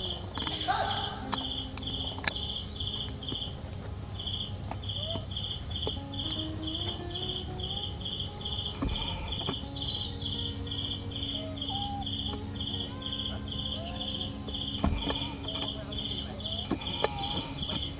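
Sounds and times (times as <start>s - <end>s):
insects chirping: 0.0s - 17.9s
steady high-pitched buzz: 0.0s - 17.9s.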